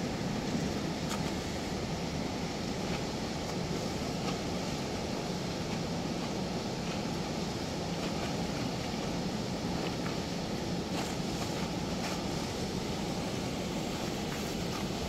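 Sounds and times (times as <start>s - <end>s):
water rushing through sluice gate: 0.0s - 15.0s.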